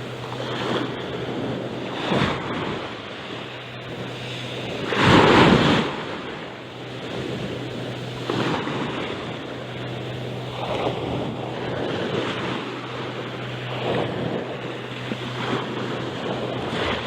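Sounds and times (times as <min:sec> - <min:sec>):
sea waves washing on shore: 0:00.0 - 0:17.0
steady low hum: 0:00.0 - 0:17.0.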